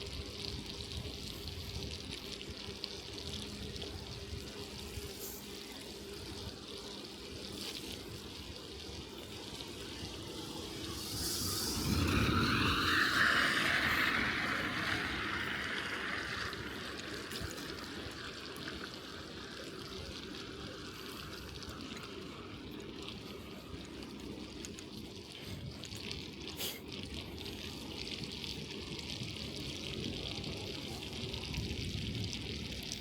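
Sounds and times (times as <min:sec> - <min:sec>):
bicycle tyres on slushy snow: 0:00.0 - 0:33.0.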